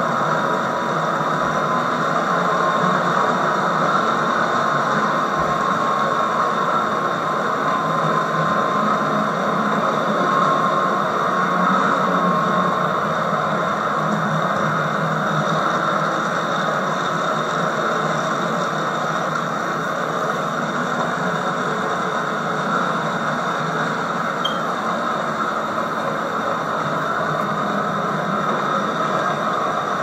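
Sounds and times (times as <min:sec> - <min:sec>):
model trains whirring: 0:00.0 - 0:30.0.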